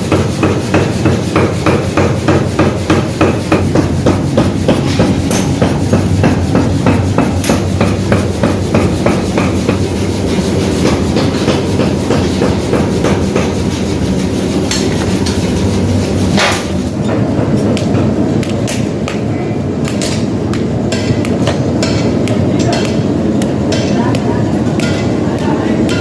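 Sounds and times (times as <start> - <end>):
low machine hum: 0.0 - 26.0
rapid hammer blows on metal: 0.0 - 26.0.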